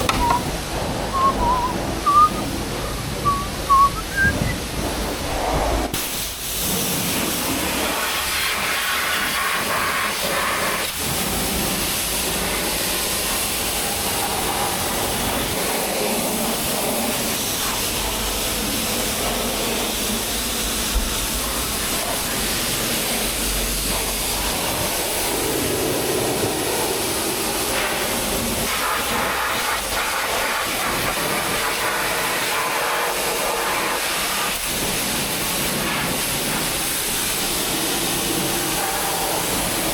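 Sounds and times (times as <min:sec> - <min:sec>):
pressure washer spraying water: 0:06.0 - 0:39.9.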